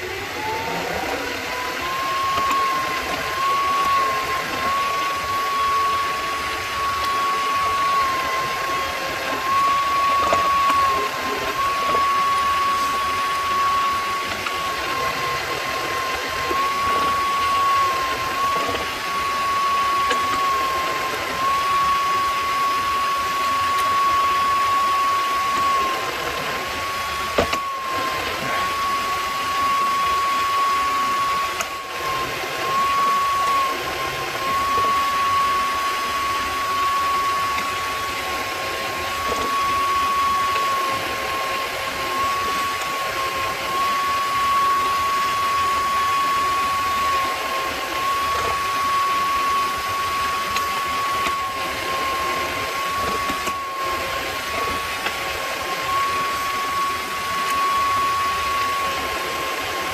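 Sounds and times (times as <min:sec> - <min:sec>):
drill boring into workpiece: 0:00.0 - 0:59.9
lathe running with high whine: 0:00.0 - 0:59.9.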